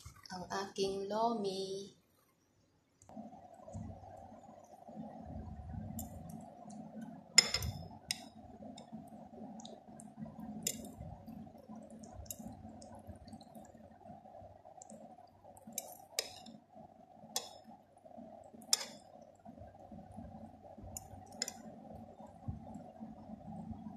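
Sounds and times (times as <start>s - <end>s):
faint background hum: 0.0s - 23.9s.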